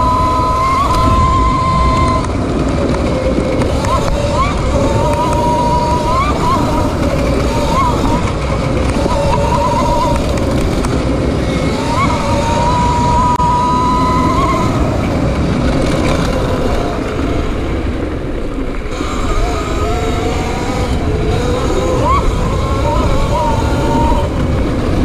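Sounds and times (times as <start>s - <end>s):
electric bike motor whining: 0.0s - 25.0s
loud low rumble: 0.0s - 25.0s.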